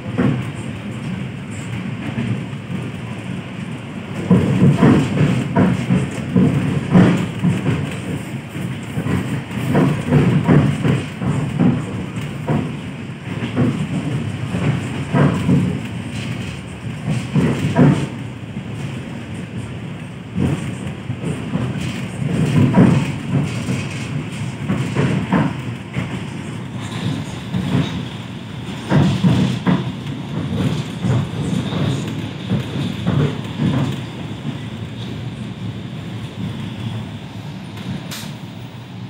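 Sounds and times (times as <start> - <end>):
train carriage low rumble: 0.0 - 39.0.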